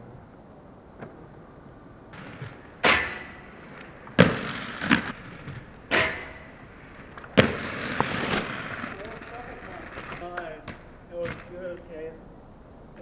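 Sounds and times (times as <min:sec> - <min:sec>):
skateboard wheels rolling: 0:00.0 - 0:13.0
skateboard clacking on pavement: 0:00.9 - 0:12.1.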